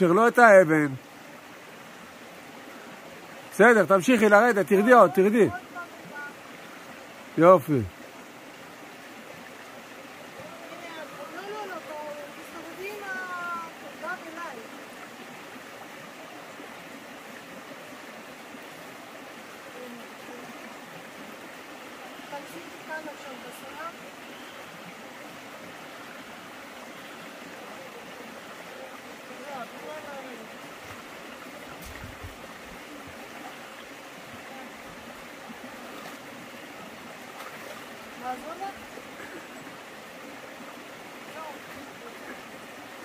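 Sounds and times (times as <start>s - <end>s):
stream water flowing: 0.0s - 43.0s.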